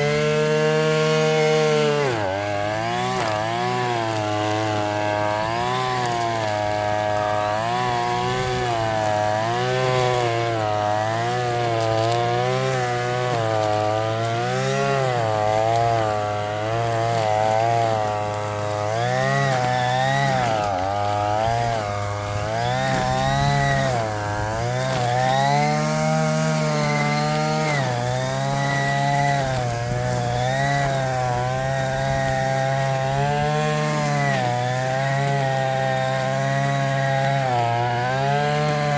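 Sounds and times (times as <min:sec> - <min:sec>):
string trimmer engine revving: 0:00.0 - 0:38.9.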